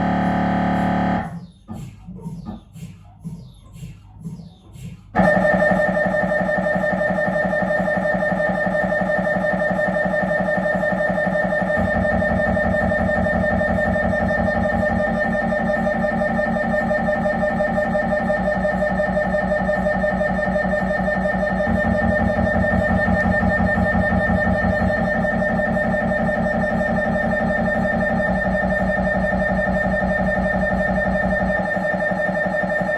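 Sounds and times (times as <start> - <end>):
mri scanner buzzing and pulsing: 0.0 - 1.4, 5.2 - 32.9.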